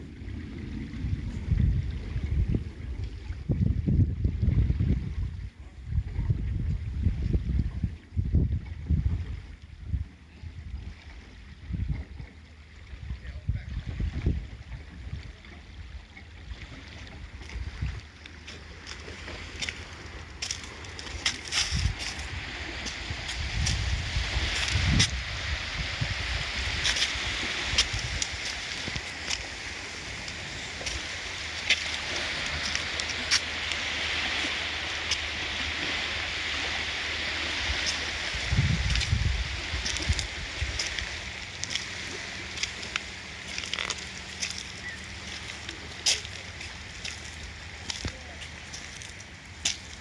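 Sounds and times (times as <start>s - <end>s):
wind buffeting microphone: 0.0s - 12.3s, 12.9s - 33.6s, 37.4s - 50.0s
shallow water lapping: 0.0s - 50.0s.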